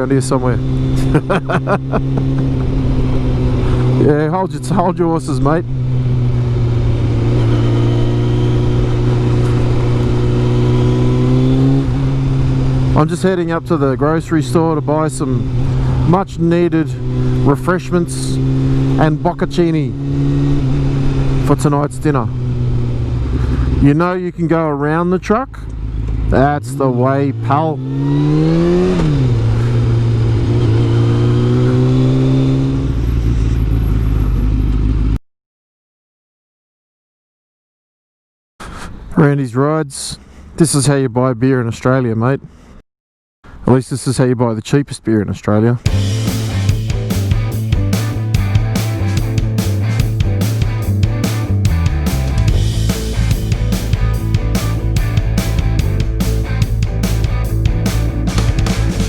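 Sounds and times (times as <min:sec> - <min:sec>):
motorcycle engine under throttle: 0:00.0 - 0:24.0, 0:24.8 - 0:35.2, 0:45.9 - 0:59.0.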